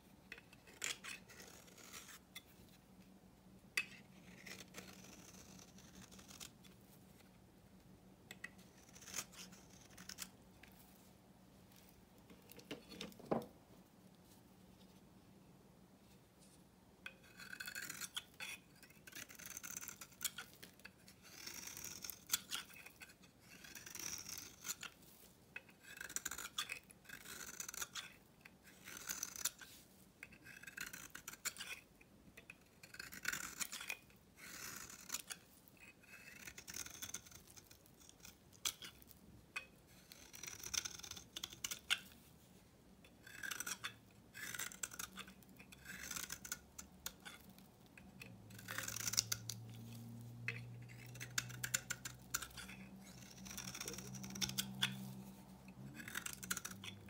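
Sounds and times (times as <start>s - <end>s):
knife scraping soap: 0.1s - 2.8s, 3.8s - 7.4s, 8.3s - 11.0s, 17.0s - 42.3s, 43.0s - 57.0s.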